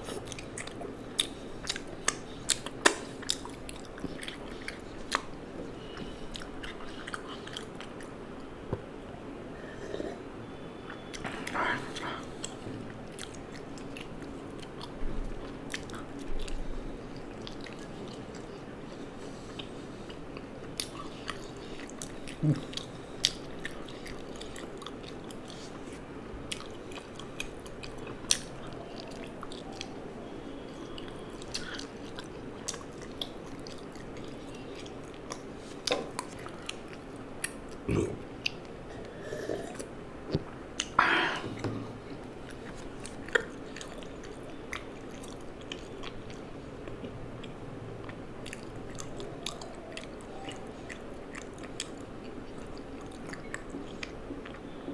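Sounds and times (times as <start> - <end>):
person chewing food: 0.0 - 8.9, 10.8 - 54.9.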